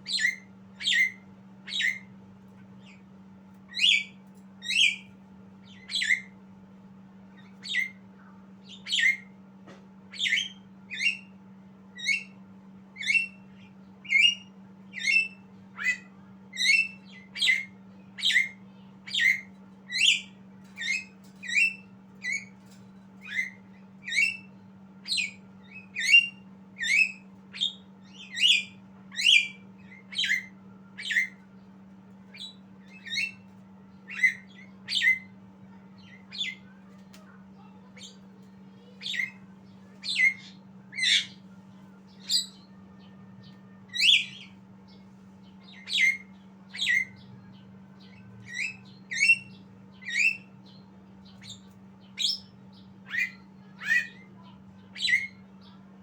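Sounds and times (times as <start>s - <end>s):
myna bird chirping: 0.0s - 3.1s, 3.7s - 6.4s, 7.4s - 8.0s, 8.6s - 9.3s, 10.1s - 12.4s, 13.0s - 31.6s, 32.2s - 55.8s
steady low hum: 0.0s - 56.0s.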